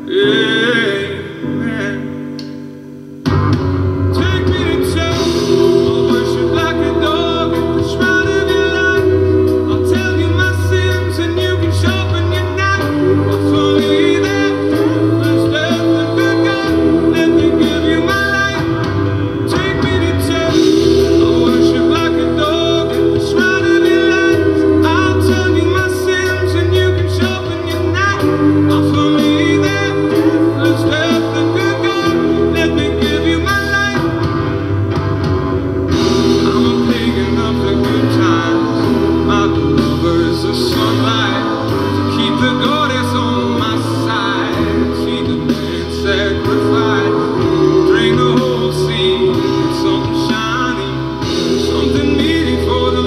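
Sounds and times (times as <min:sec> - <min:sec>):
person singing: 0:00.0 - 0:02.6, 0:04.0 - 0:34.6, 0:35.8 - 0:53.0
bass: 0:00.0 - 0:53.0
guitar: 0:00.0 - 0:53.0.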